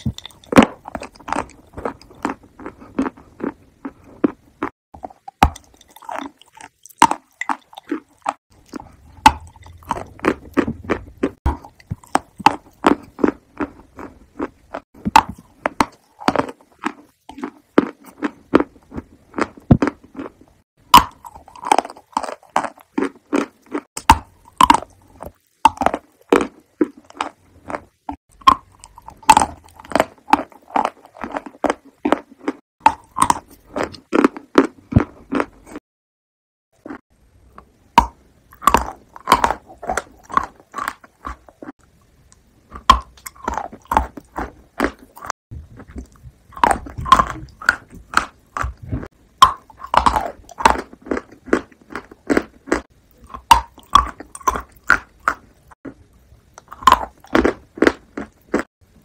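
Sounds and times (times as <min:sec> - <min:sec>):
person chewing and biting: 0:00.0 - 0:35.8, 0:36.8 - 0:41.8, 0:42.7 - 0:55.8, 0:56.5 - 0:58.7.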